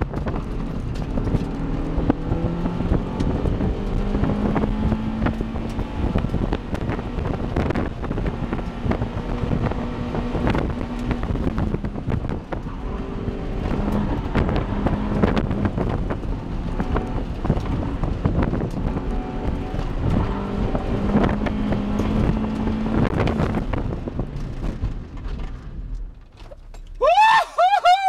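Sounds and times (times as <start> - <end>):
wind noise: 0.0 - 25.9
car engine driven hard: 0.0 - 27.0.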